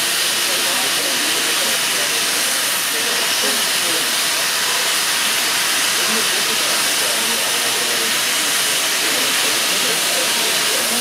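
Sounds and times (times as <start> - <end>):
steam locomotive venting steam: 0.0 - 11.0.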